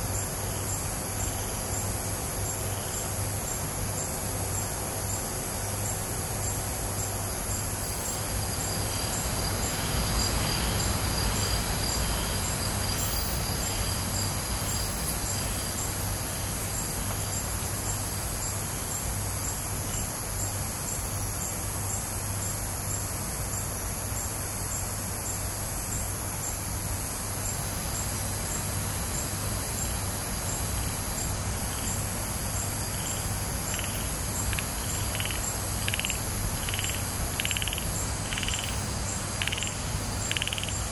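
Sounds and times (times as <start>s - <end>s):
crickets and insects trilling: 0.0s - 40.9s
pulsing high insect call: 0.0s - 40.9s.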